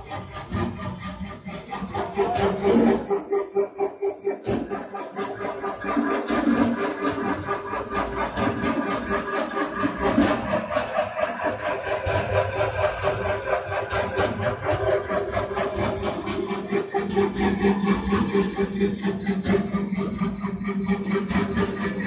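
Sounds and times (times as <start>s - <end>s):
rotating drums rattling: 0.0s - 22.0s.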